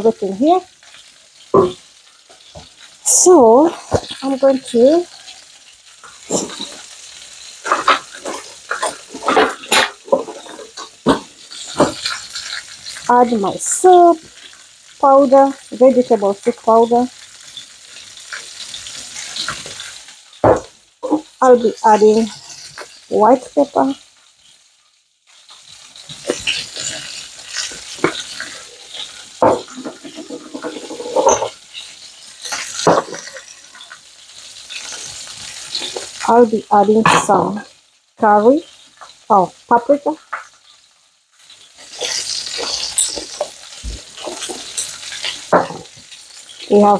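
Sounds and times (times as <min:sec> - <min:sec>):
ribs sizzling in frying pan: 0:00.0 - 0:46.9.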